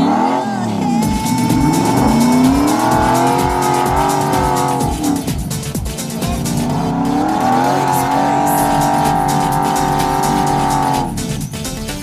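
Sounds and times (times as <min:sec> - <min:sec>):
truck engine revving hard: 0:00.0 - 0:11.6.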